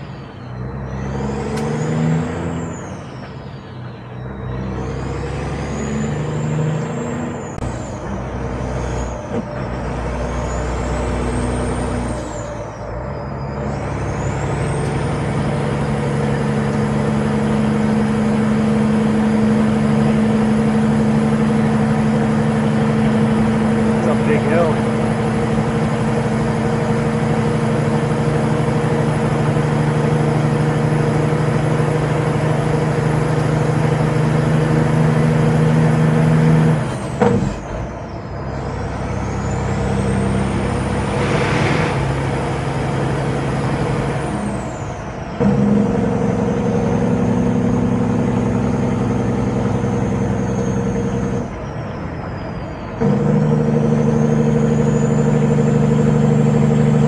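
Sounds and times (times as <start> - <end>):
truck diesel engine pulling: 0.0 - 57.0
turbo whine: 0.0 - 57.0.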